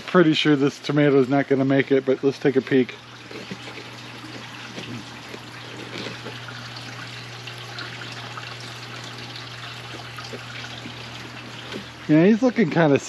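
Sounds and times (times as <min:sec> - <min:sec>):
water trickling: 0:00.1 - 0:13.0.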